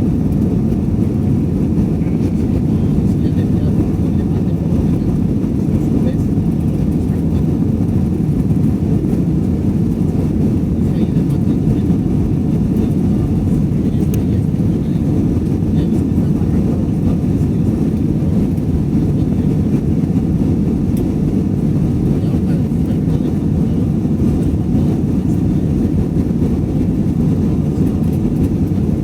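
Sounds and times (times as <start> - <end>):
airliner cabin rumble: 0.0 - 29.0
jet engine: 0.0 - 29.0.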